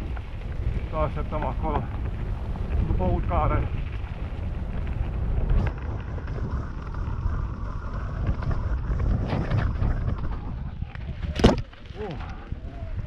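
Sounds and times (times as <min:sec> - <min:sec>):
bike rolling over dirt: 0:00.0 - 0:13.0
wind over microphone: 0:00.0 - 0:13.0.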